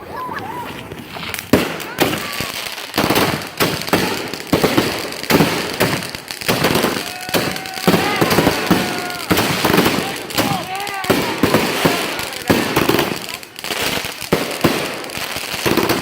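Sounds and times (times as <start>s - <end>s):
fireworks bangs and crackles: 0.0s - 16.0s
fireworks whistling: 0.0s - 16.0s.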